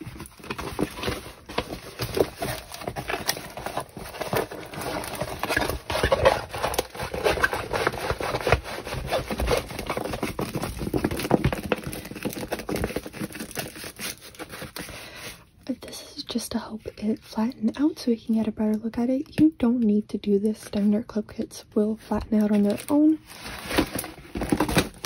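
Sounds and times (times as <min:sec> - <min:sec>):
plastic film crinkling and scraping: 0:00.0 - 0:18.8, 0:20.7 - 0:25.0.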